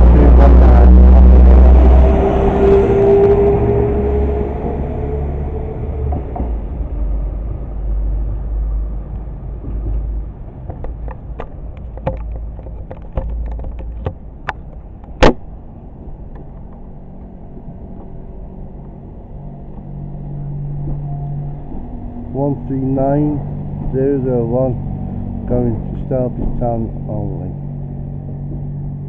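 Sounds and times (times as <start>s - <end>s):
steady hum: 0.0s - 29.0s
train engine rumble: 0.0s - 29.0s.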